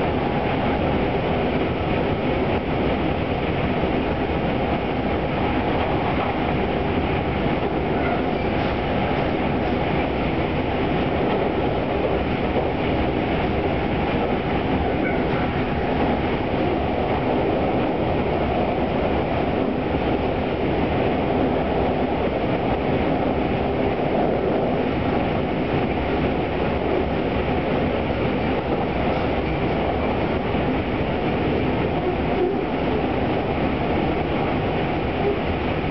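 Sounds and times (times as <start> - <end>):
train running on rails: 0.0 - 35.9.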